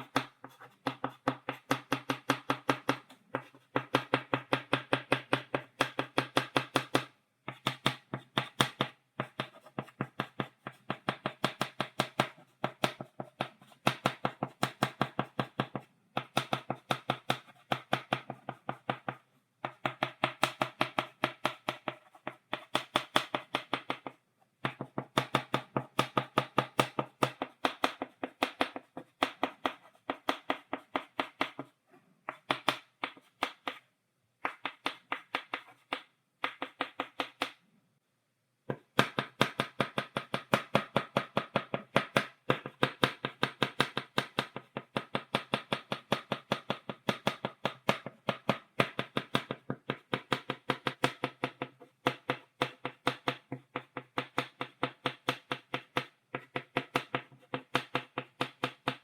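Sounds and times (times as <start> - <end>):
chalk tapping on blackboard: 0.0 - 37.6, 38.7 - 59.0.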